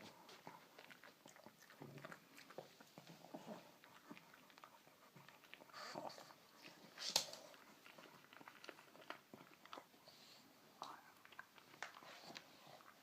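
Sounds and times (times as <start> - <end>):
dog gnawing on a bone: 0.0 - 13.0.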